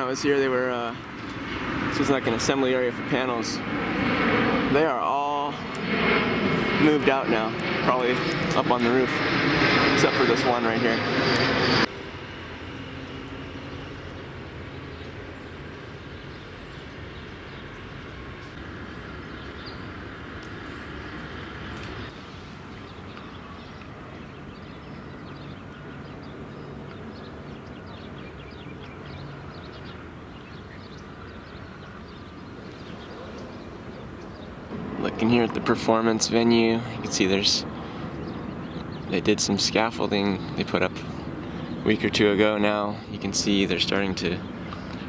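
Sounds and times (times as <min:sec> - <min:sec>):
distant traffic: 0:00.0 - 0:45.0.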